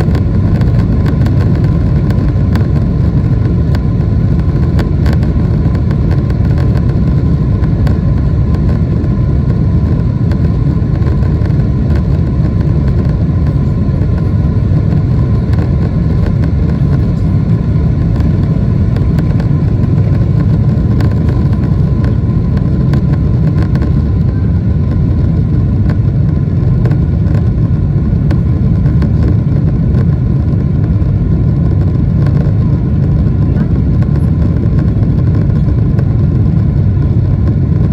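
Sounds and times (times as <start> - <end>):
aircraft cabin engine rumble: 0.0 - 37.9.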